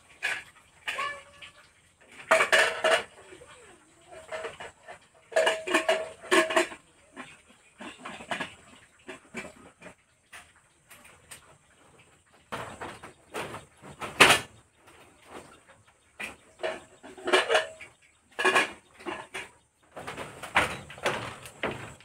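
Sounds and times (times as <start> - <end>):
metal pots clinking and clattering: 0.0 - 22.0.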